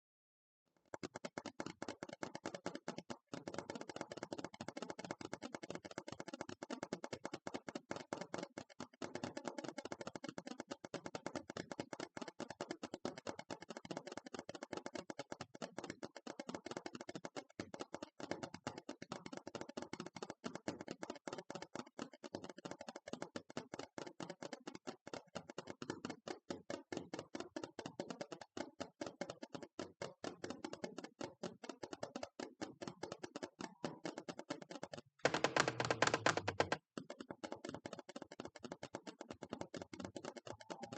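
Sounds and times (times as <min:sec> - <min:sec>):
fast tapping on hard object: 0:00.9 - 0:40.9.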